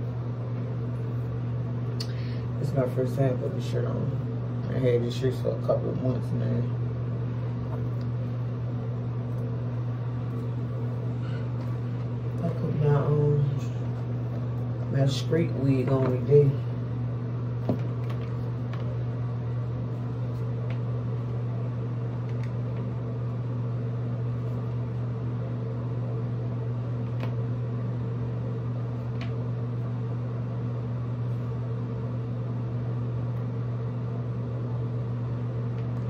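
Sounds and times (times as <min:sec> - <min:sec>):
fan motor humming: 0:00.0 - 0:36.0.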